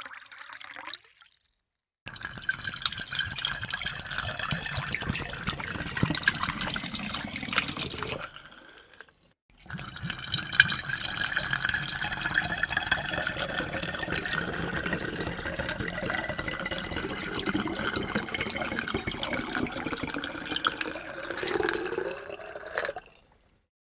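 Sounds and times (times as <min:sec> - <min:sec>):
water pouring into a glass: 0:00.0 - 0:01.4, 0:02.1 - 0:23.7.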